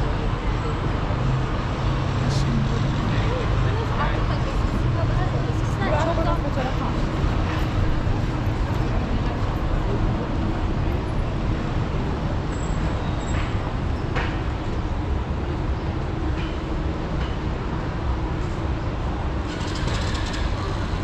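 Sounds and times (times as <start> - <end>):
steady traffic noise: 0.0 - 21.0.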